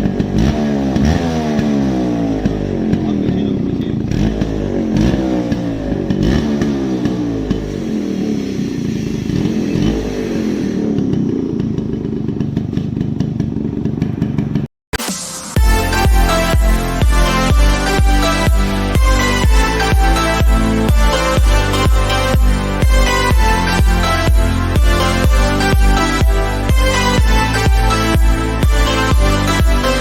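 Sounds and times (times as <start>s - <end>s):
two-stroke motorcycle engine revving: 0.0s - 30.0s.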